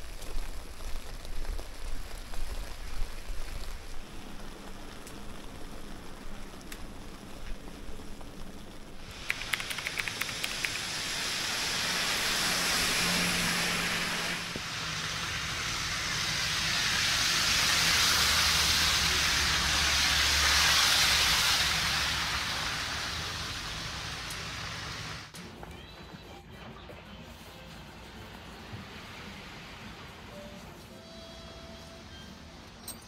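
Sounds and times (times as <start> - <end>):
tyres hissing on wet road: 0.0 - 25.4, 27.8 - 32.8.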